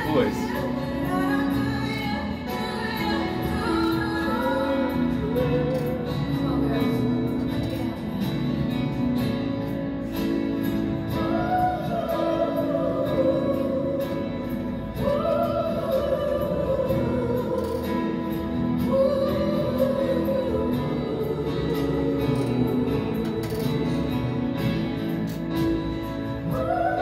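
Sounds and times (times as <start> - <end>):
woman singing a slow ballad: 0.0 - 27.0.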